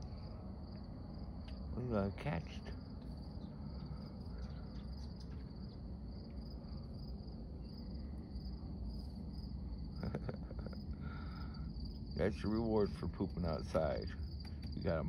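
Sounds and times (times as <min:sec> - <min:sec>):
crickets chirping: 0:00.0 - 0:15.0
low steady rumble: 0:00.0 - 0:15.0.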